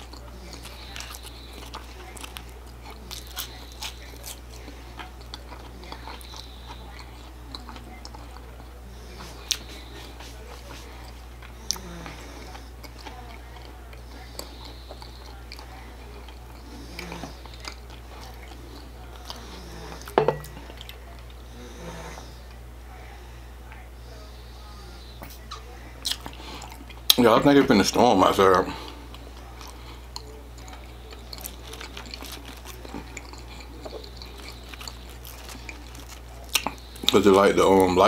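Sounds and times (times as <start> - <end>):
man chewing food: 0.0 - 22.8, 23.6 - 38.0
steady low hum: 0.0 - 38.0.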